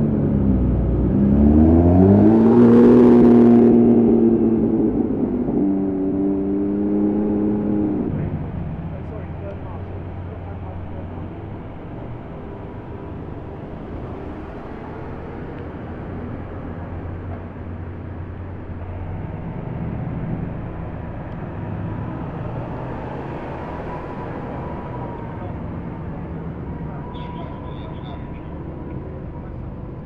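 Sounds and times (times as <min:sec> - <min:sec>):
car engines running low speed: 0:00.0 - 0:30.0.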